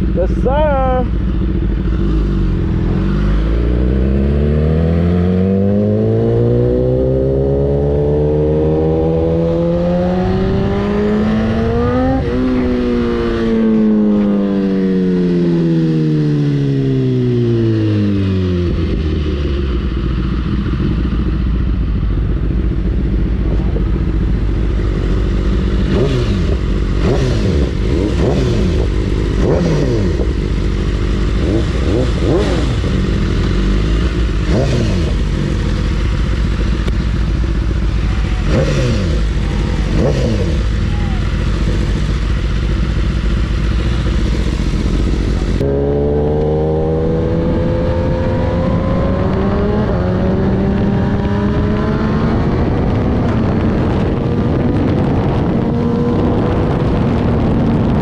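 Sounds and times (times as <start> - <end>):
motorcycle engine revving: 0.0 - 58.0
motorcycle engine rumbling at low revs: 0.0 - 58.0.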